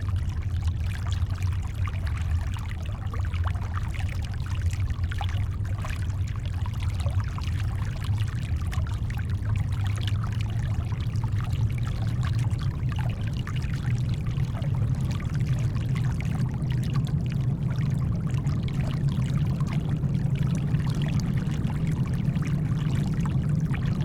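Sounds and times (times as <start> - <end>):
deep brown noise rumble: 0.0 - 24.0.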